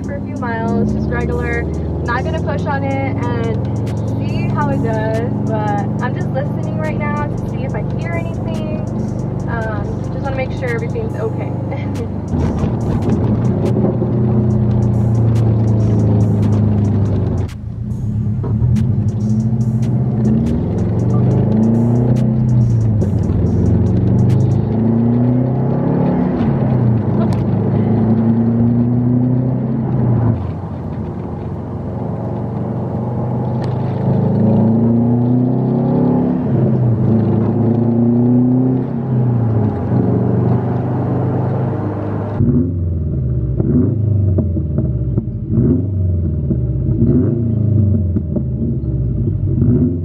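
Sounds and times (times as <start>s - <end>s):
car engine accelerating: 0.0s - 50.0s
muffled car engine outside: 0.0s - 50.0s.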